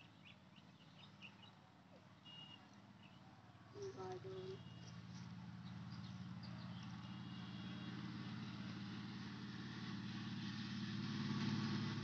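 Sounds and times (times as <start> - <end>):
engine low pulsing hum: 0.0 - 12.0.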